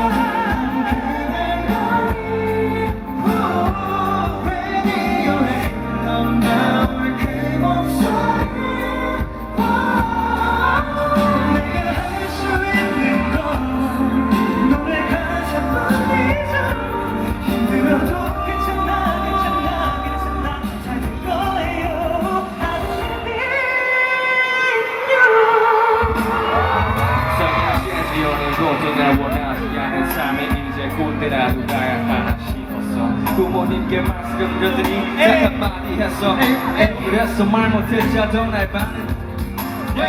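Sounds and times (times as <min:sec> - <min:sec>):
men singing: 0:00.0 - 0:28.2, 0:28.8 - 0:40.0
band playing: 0:00.0 - 0:40.0.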